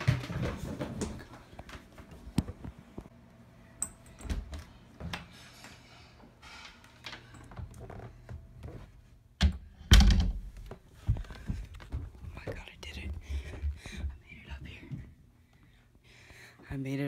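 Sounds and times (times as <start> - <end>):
footsteps creeping indoors: 0.0 - 9.4, 10.4 - 16.8.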